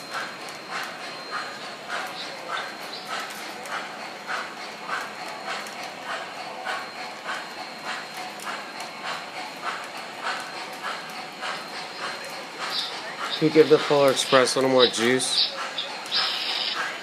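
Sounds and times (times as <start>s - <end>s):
electronic locomotive chuffing: 0.0s - 17.0s
wheels rumbling on track: 0.0s - 17.0s.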